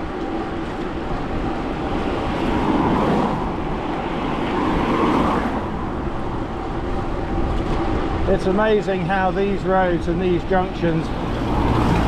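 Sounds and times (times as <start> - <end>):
motor vehicles passing: 0.0 - 12.0
wind and bicycle tyres rumble: 0.0 - 12.0.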